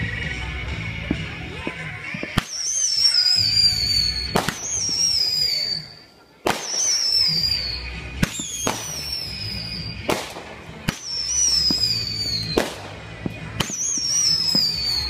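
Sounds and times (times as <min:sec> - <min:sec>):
firework bangs: 0:01.0 - 0:15.0
whistling fireworks: 0:01.2 - 0:15.0.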